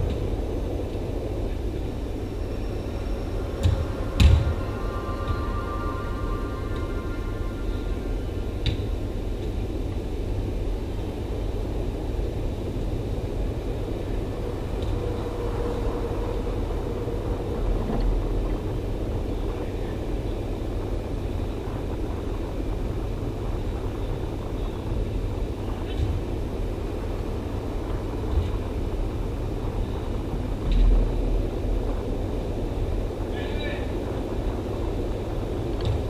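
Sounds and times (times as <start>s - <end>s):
indoor hall rumble and hiss: 0.0s - 36.0s.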